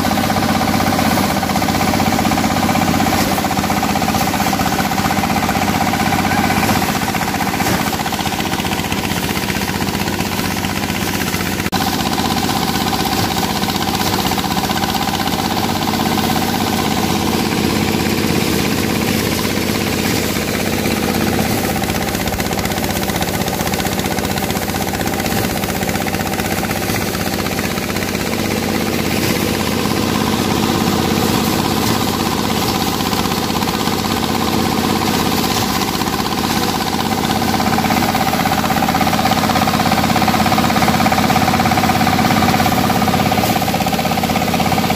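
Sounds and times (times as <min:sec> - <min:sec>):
rice thresher engine running: 0:00.0 - 0:44.9.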